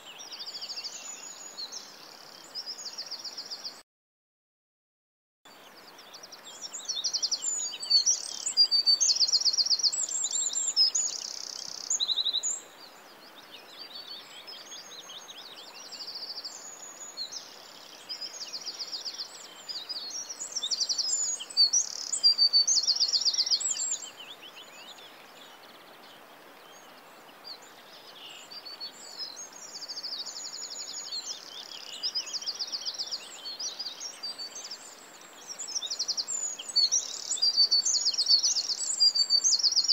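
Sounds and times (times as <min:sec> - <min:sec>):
faint steady hiss: 0:00.0 - 0:03.8, 0:05.5 - 0:39.9
small birds chirping and trilling: 0:00.0 - 0:03.8, 0:05.5 - 0:39.9.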